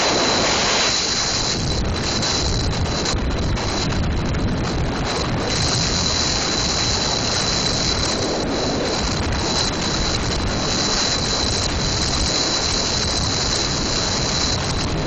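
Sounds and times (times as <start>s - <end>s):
car road noise on snow: 0.0s - 15.0s
tyre and wind noise: 0.0s - 15.0s.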